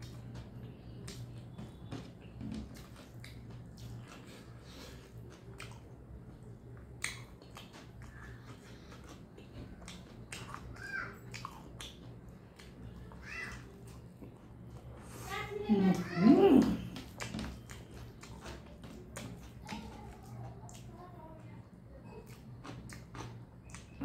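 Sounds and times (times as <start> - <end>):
wet chewing and smacking: 0.0 - 24.0.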